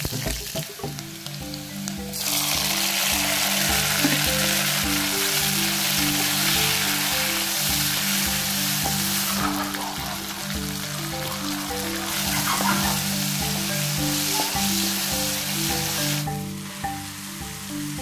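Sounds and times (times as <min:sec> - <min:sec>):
light background music: 0:00.0 - 0:18.0
onions and tomatoes sizzling in oil: 0:00.0 - 0:18.0.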